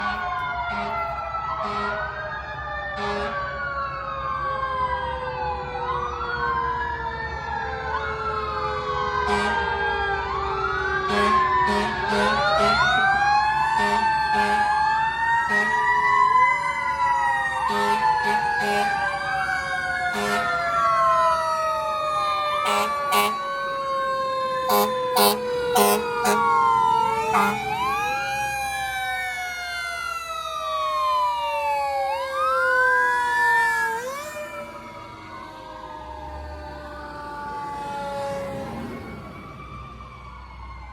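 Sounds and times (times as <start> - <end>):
fire truck sirens wailing: 0.0 - 40.9
truck engines rumbling: 0.0 - 40.9.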